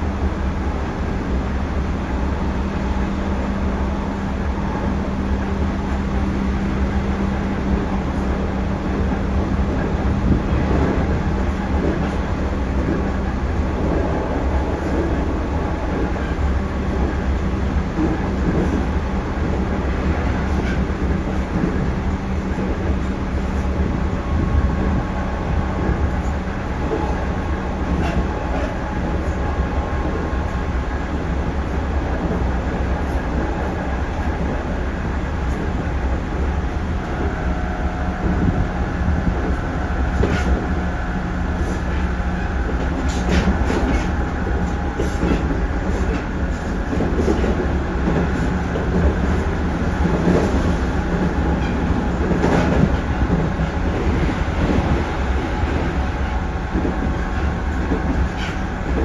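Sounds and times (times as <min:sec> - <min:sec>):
train rolling rumble and hum: 0:00.0 - 0:59.0.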